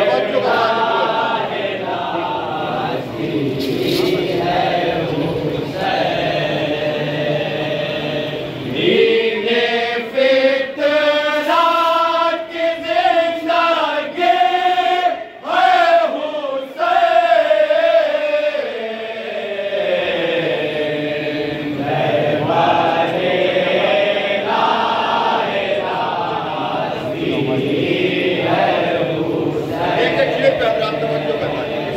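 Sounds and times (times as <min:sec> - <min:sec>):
group of men chanting: 0:00.0 - 0:31.9.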